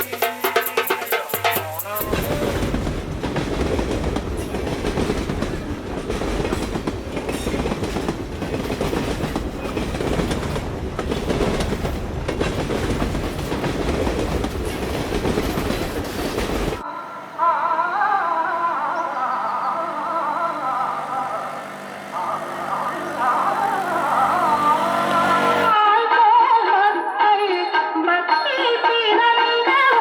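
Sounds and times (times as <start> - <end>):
train rattling along track: 0.0 - 17.4, 18.6 - 25.8.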